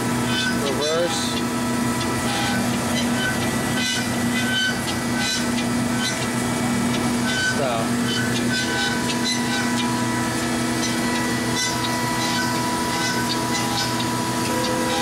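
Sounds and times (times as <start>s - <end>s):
band saw humming: 0.0s - 15.0s.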